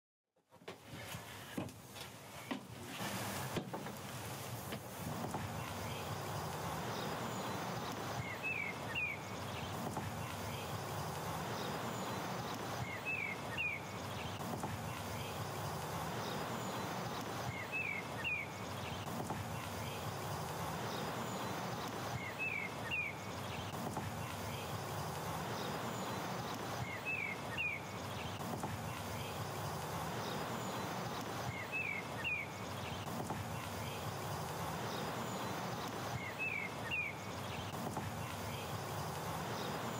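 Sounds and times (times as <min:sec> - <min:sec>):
steady outdoor background hum: 0:00.4 - 0:39.9.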